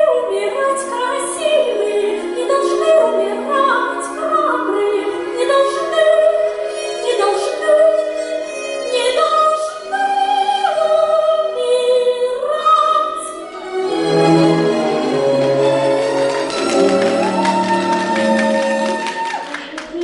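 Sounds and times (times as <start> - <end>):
operatic-style singing: 0.0 - 20.0.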